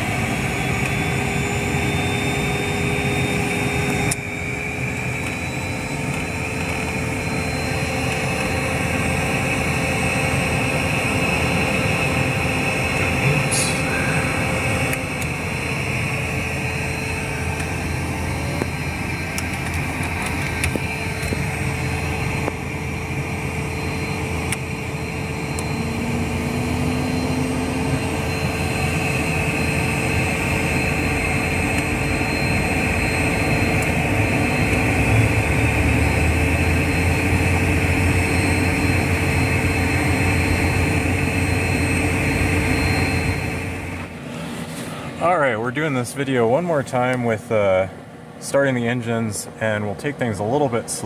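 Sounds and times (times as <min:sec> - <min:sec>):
turbofan engines whining: 0:00.0 - 0:51.0.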